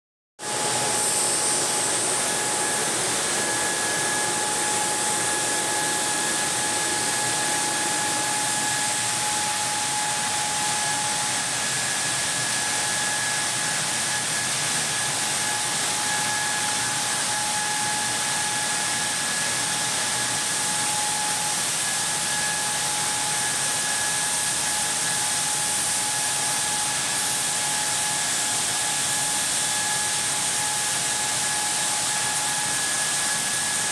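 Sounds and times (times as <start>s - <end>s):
drilling machine hissing: 0.4s - 33.9s
high-pitched whine: 0.4s - 33.9s.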